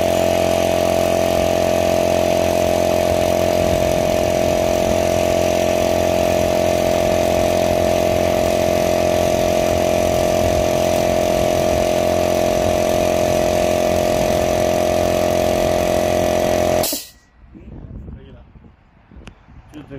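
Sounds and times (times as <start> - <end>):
air compressor humming: 0.0 - 17.3.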